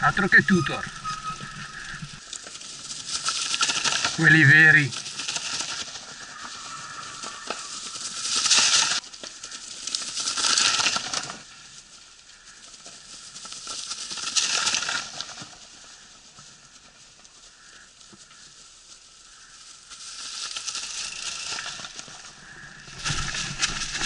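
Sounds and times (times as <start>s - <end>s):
bike tyres crunching dry leaves: 0.1s - 24.0s.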